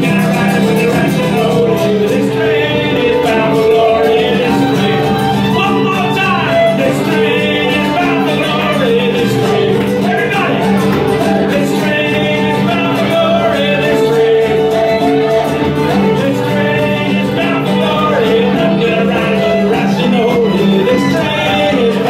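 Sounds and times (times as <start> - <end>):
acoustic guitar strummed: 0.0 - 22.0
fiddle: 0.0 - 22.0
man singing into a microphone: 0.0 - 22.0.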